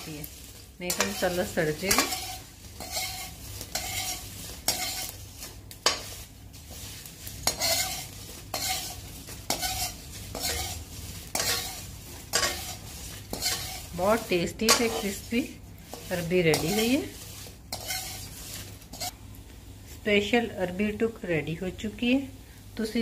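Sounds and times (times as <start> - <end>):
metal spoon scraping a pan: 0.0 - 19.2.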